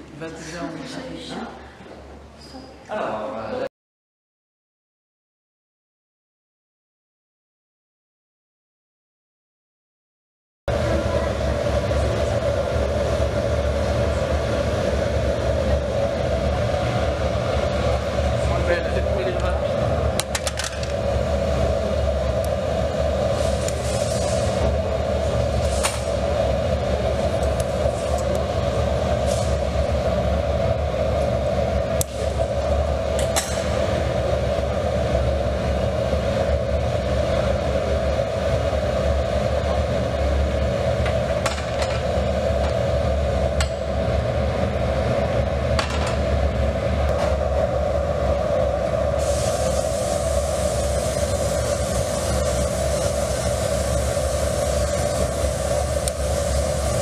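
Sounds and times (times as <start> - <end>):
furnace and blower drone: 0.0 - 3.7, 10.7 - 57.0.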